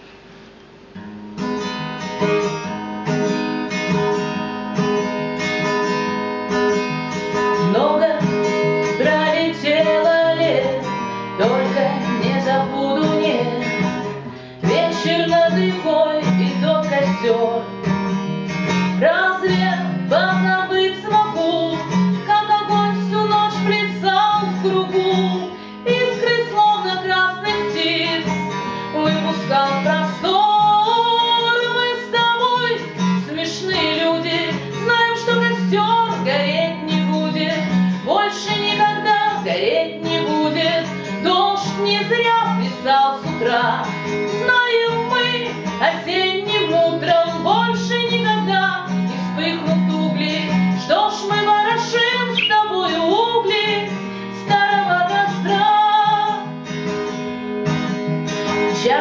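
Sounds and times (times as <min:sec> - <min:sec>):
acoustic guitar plucked and strummed: 0:00.0 - 0:59.0.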